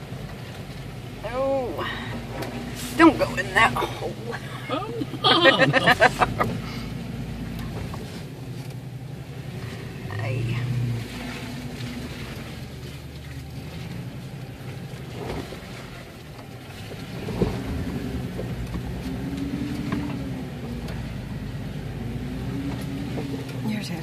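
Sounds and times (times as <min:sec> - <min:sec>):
engine low rumble from inside cab: 0:00.0 - 0:24.0.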